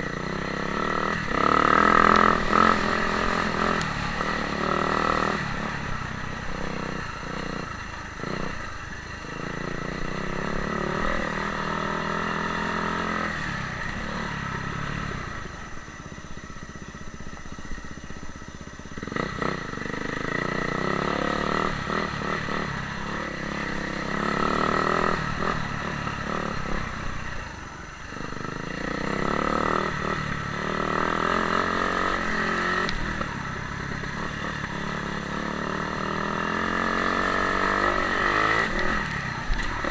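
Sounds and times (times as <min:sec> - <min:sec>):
motocross bike engine revving: 0:00.0 - 0:15.8, 0:18.6 - 0:27.6, 0:28.2 - 0:39.9.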